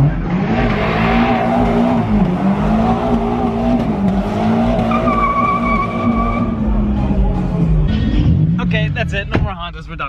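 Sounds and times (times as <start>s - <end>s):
car engine revving high: 0.0s - 9.1s.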